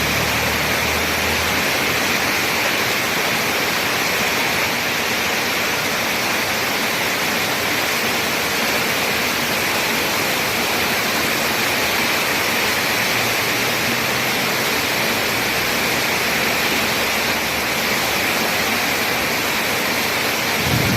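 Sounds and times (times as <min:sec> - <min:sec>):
rain falling steadily: 0:00.0 - 0:20.9.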